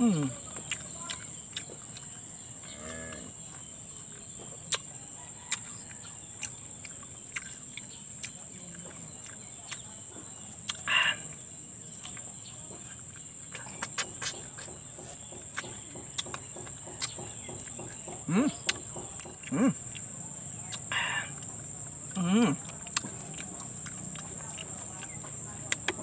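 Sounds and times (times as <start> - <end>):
high insect drone: 0.0 - 26.0
chewing and mouth clicks: 0.1 - 26.0.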